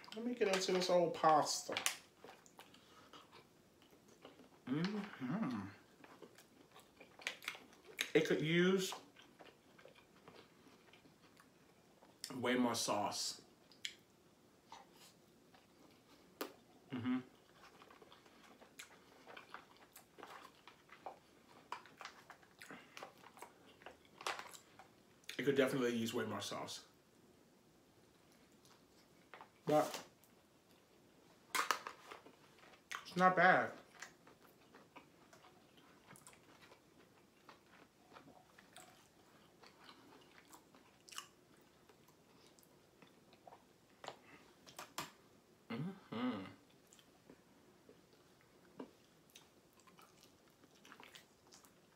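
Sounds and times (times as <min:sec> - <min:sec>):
person chewing close to microphone: 0:00.0 - 0:08.2, 0:08.9 - 0:12.4, 0:13.6 - 0:25.4, 0:28.1 - 0:45.2, 0:46.6 - 0:51.9.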